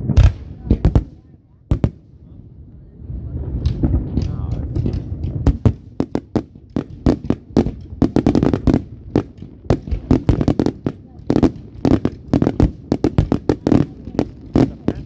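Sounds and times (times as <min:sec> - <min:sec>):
sharp firework cracks and bangs: 0:00.0 - 0:02.2, 0:03.6 - 0:15.0
low rumbling firework booms: 0:00.0 - 0:15.0.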